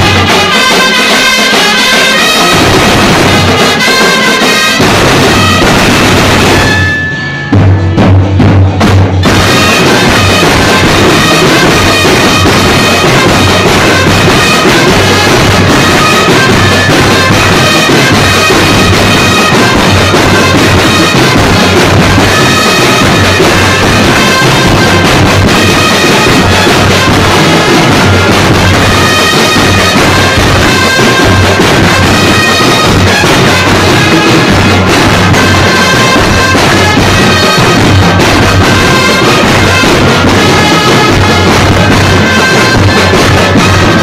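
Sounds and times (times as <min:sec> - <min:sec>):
drum and bugle corps playing: 0:00.0 - 0:44.0.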